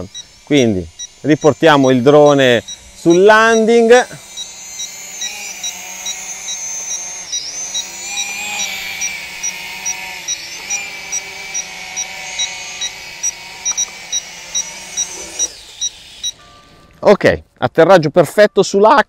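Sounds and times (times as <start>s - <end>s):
short high beeps: 0.0s - 9.6s, 10.2s - 17.0s
drone propellers whirring: 0.0s - 17.0s.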